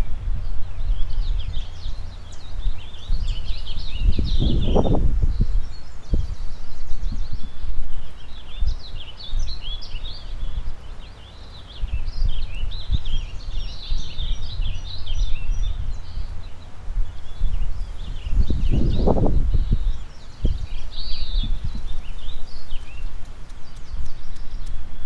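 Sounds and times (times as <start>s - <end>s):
songbirds chirping: 0.0s - 25.0s
wind buffeting microphone: 0.0s - 25.0s.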